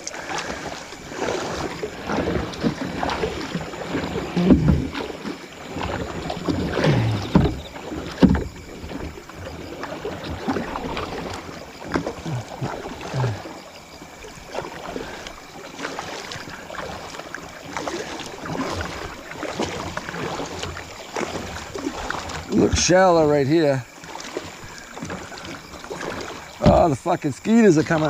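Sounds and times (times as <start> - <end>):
paddle splashes: 0.0 - 28.0
water washing: 0.0 - 28.0.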